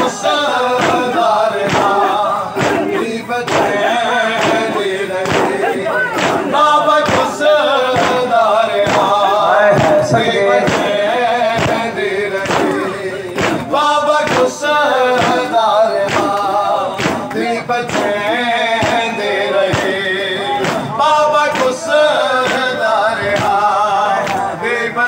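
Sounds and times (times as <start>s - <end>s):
men chanting a lament: 0.0s - 25.0s
men slapping chests in unison: 0.0s - 25.0s.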